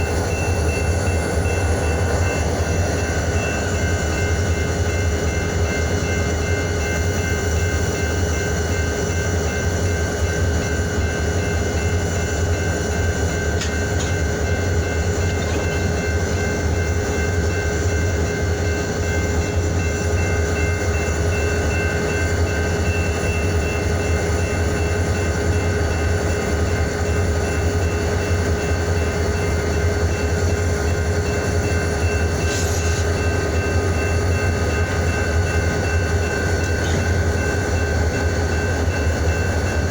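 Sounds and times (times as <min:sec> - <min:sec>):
locomotive engine rumble: 0:00.0 - 0:39.9.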